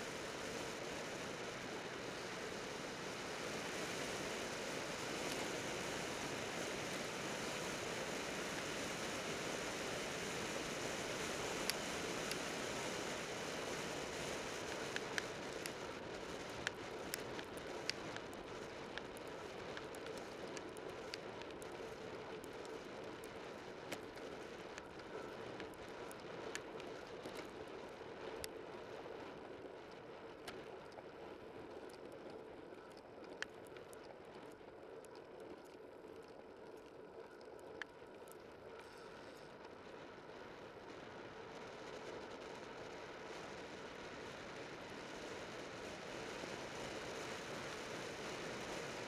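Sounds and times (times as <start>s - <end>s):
bicycle tyres on road: 0.0s - 49.0s
small sharp clicks and ticks: 0.0s - 49.0s.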